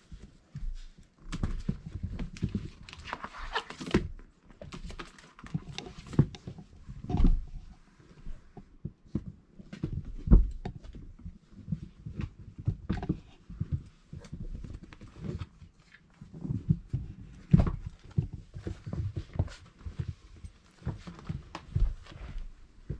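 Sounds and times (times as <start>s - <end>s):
puppies scuffling and thumping: 0.0s - 22.9s.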